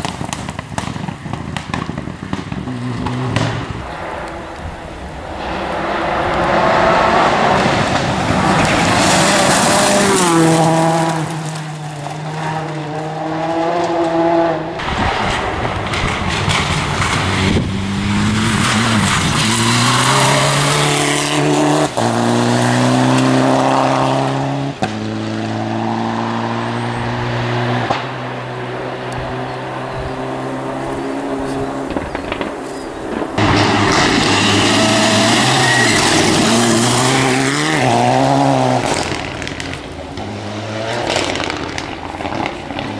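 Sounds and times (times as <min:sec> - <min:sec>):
rally car engine at full throttle: 0:00.0 - 0:42.9.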